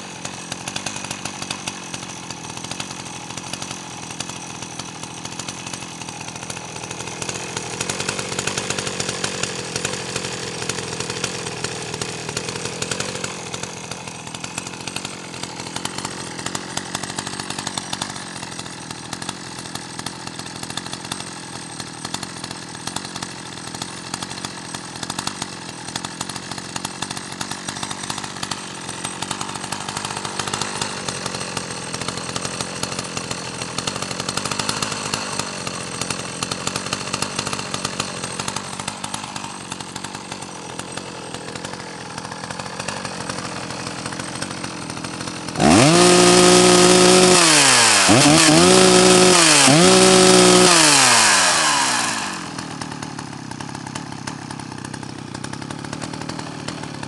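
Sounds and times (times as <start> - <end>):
chainsaw idling: 0.0 - 57.0.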